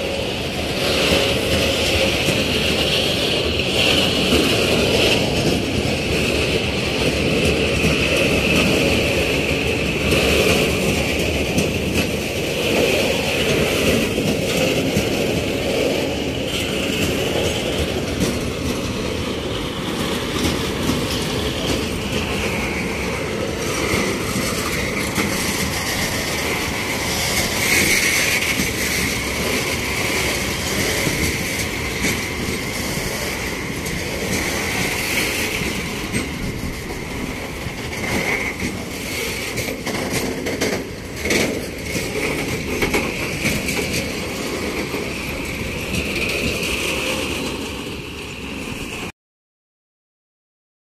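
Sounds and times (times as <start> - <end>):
train wheels clattering over rail joints: 0.0 - 49.0.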